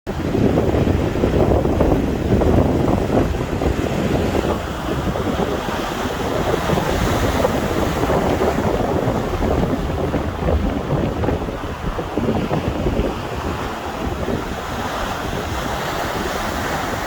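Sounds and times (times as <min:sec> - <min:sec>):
waves crashing on shore: 0:00.1 - 0:17.0
wind buffeting microphone: 0:00.1 - 0:17.0.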